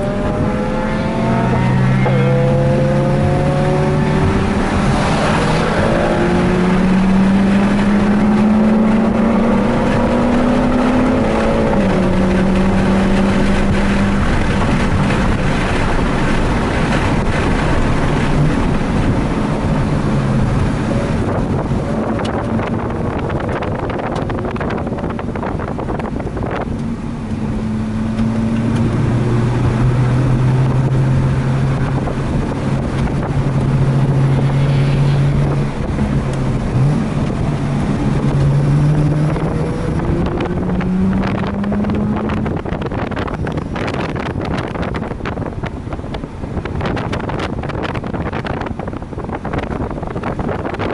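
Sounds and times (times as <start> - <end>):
rotary engine revving hard: 0.0 - 25.0, 27.6 - 45.1
wind buffeting microphone: 0.0 - 50.9.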